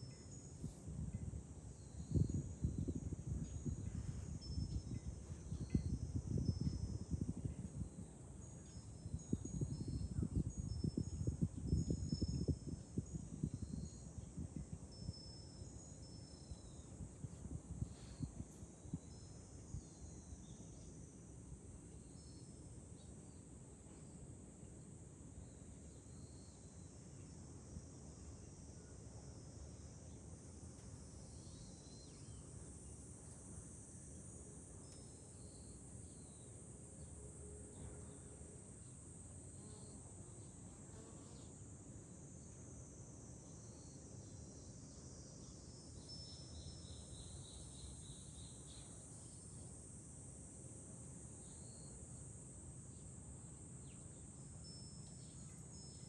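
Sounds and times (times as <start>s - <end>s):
cicadas chorus: 0.0s - 56.0s.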